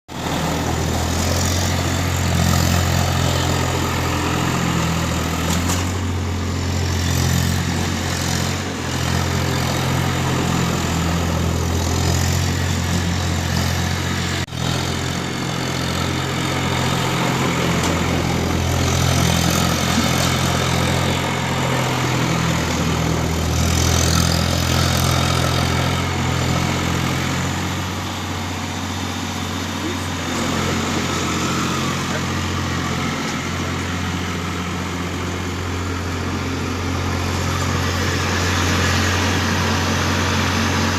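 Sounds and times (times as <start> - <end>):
tractor diesel engine: 0.1 - 40.9.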